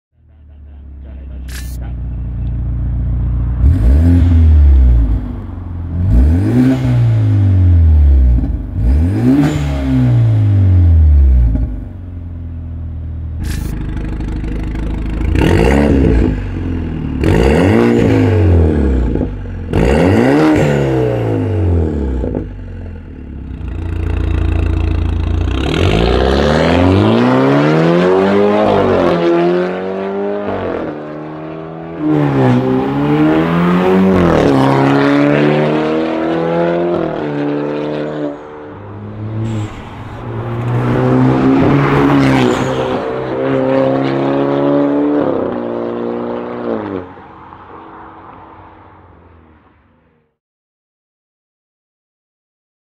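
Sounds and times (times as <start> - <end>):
car engine revving: 0.3 - 49.4.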